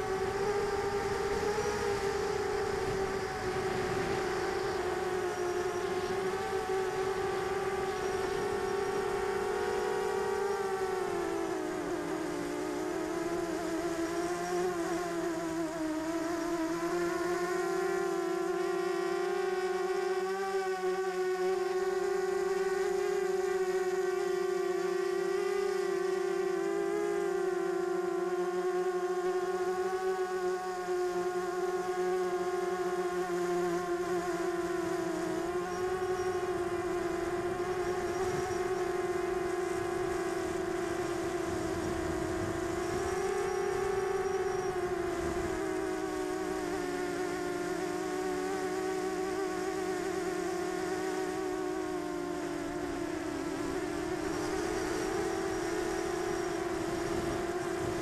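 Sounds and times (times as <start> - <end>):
quadcopter propellers buzzing: 0.0 - 58.0.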